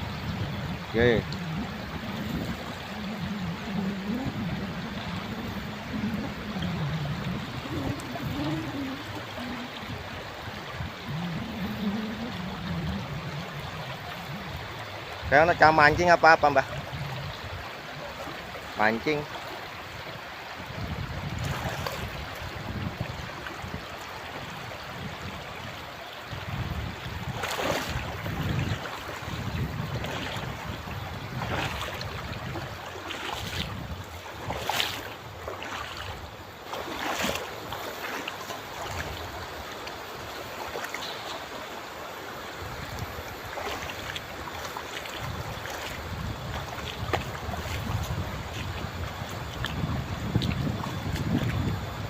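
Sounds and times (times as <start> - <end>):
shallow river flowing: 0.0 - 52.0
water splashes: 0.0 - 52.0
wind rumbling on microphone: 0.0 - 52.0.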